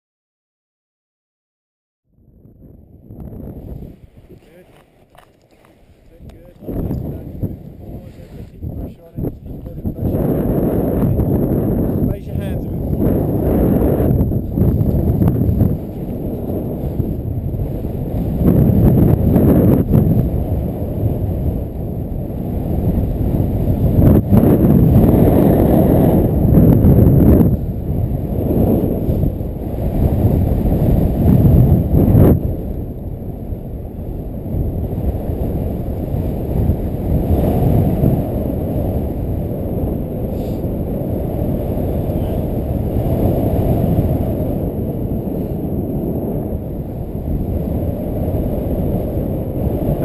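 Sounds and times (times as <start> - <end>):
wind buffeting microphone: 2.2 - 50.0.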